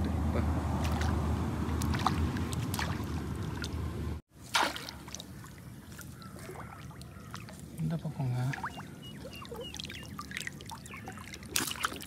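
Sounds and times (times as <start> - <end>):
water sloshing and splashing: 0.8 - 12.0.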